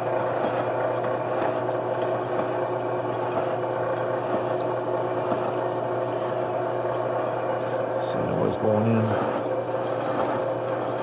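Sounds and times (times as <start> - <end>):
milling machine hum: 0.0 - 11.0.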